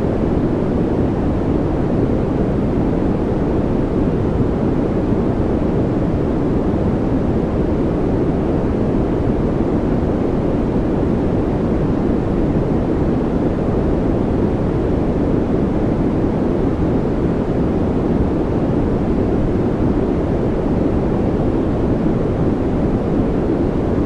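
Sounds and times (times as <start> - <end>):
steady white noise: 0.0 - 24.0.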